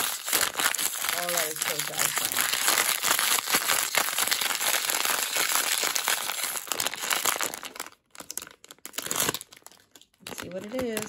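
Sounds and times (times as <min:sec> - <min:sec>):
plastic bag crackling rustle: 0:00.0 - 0:11.0.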